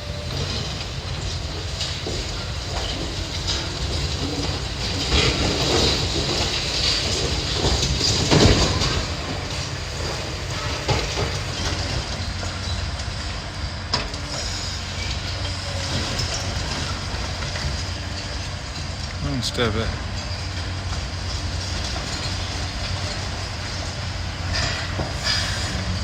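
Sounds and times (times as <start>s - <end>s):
diesel machine rumbling: 0.0s - 26.0s
debris knocking and clanking: 0.3s - 26.0s.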